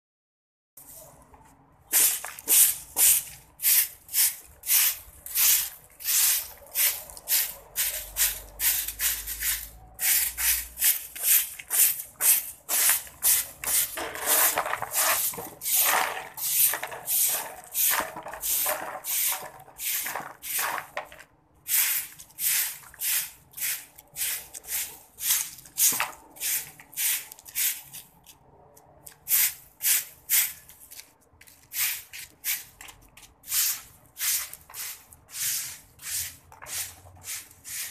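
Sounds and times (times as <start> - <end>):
broom sweeping concrete: 1.9 - 28.1, 29.1 - 37.9.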